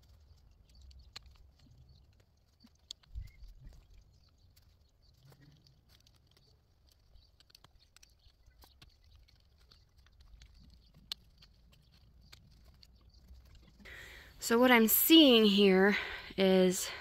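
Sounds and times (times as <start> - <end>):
clicks and rustles of wire: 0.0 - 14.4.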